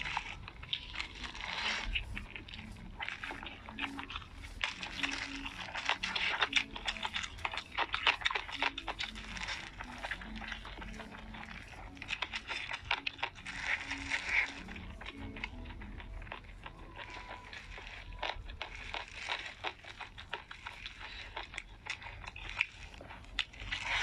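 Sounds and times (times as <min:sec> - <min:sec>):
crisp chewing crunches: 0:00.0 - 0:24.0
wet mouth sounds: 0:00.0 - 0:24.0.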